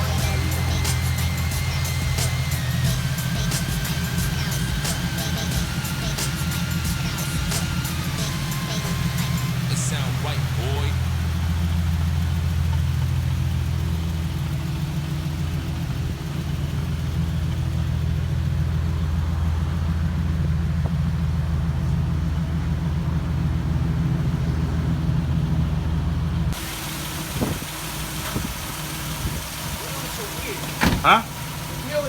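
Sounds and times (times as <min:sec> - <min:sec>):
car engine deep exhaust drone: 0:00.0 - 0:32.0.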